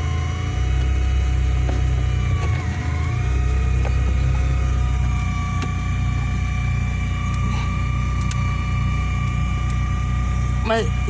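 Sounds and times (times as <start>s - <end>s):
electrical hum with high whine: 0.0s - 11.0s.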